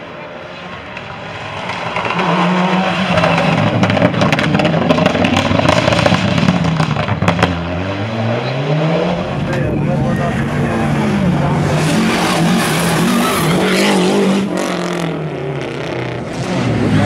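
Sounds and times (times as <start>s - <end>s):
rally car engine passing: 0.0s - 17.0s.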